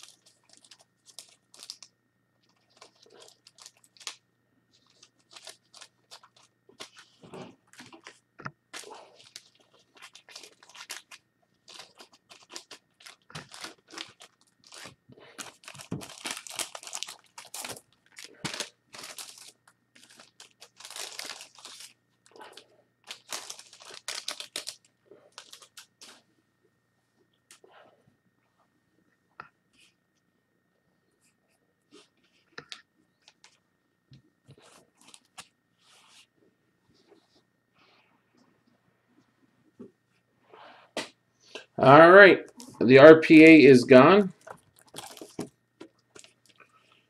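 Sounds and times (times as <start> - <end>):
crinkling and rustling: 0.0 - 26.3, 31.2 - 40.6, 44.0 - 47.0.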